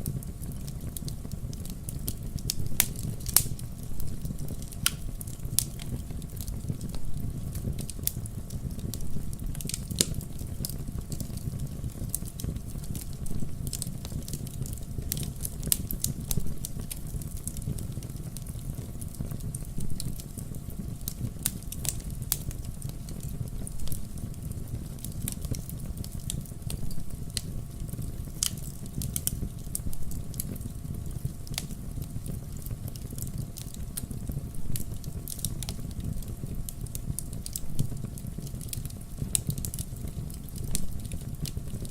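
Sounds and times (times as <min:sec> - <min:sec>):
fire crackles and pops: 0:00.0 - 0:41.9
low rumble of flames: 0:00.0 - 0:41.9.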